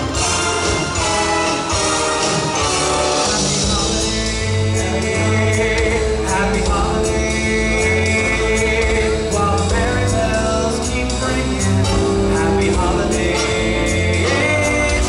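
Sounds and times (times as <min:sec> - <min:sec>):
christmas song with band: 0:00.0 - 0:15.0.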